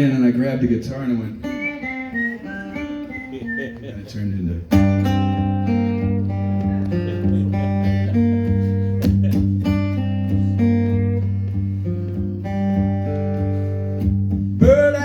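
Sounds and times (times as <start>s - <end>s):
solo guitar picked melody: 1.4s - 15.0s.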